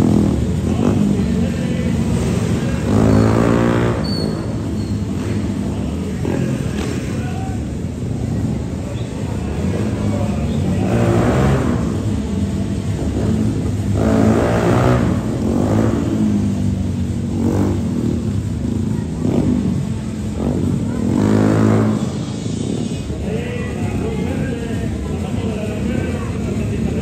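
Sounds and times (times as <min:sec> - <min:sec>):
motorcycle engines idling: 0:00.0 - 0:27.0
motorcycle engines revving: 0:00.0 - 0:27.0.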